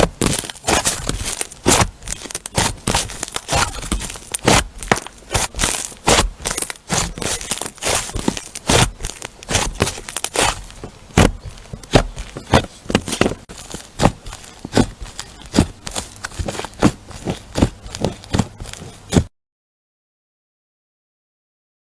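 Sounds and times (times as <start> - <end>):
crunchy slime crackling: 0.0 - 19.3.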